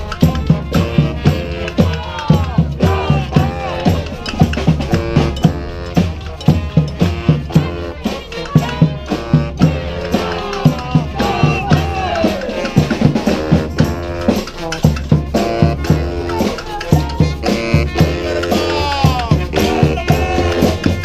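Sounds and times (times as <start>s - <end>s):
brass band horns: 0.0s - 21.0s
driving drum beat: 0.0s - 21.0s.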